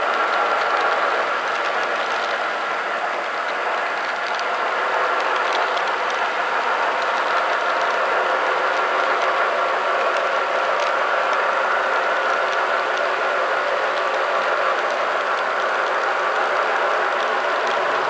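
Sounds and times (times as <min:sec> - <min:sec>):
model train whirring on track: 0:00.0 - 0:18.0.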